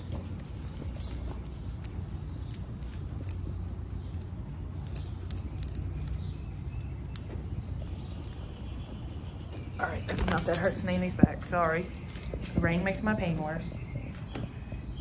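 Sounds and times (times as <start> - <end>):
dog collar tags jingling: 0.0 - 12.1
steady low rumble: 0.0 - 15.0.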